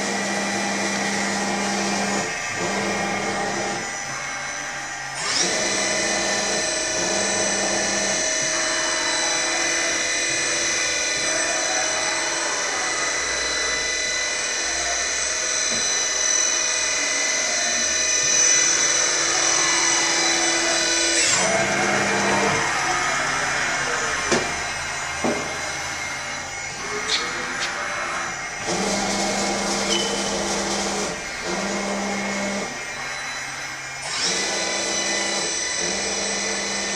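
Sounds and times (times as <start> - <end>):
mill spindle whining: 0.0 - 36.9.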